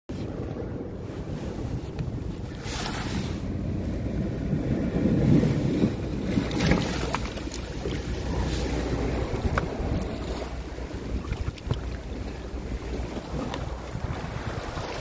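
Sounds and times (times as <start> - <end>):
wind buffeting microphone: 0.1 - 15.0
sea waves washing on rocks: 1.2 - 15.0.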